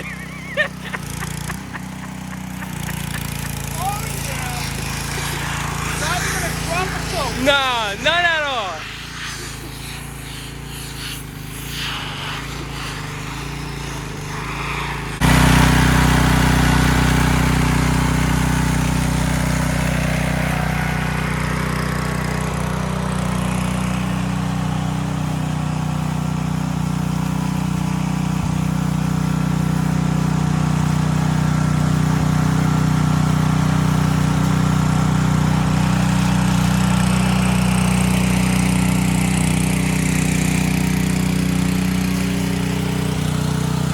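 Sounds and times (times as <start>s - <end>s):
pressure washer engine running: 0.0s - 43.9s
water spray hissing: 0.0s - 43.9s.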